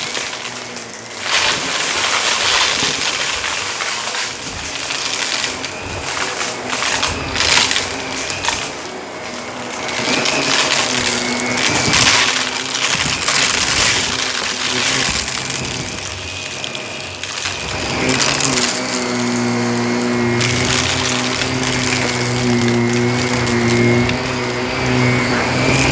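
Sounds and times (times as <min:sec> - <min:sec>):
debris crunching in vacuum: 0:00.0 - 0:25.9
vacuum cleaner motor hum: 0:00.0 - 0:25.9.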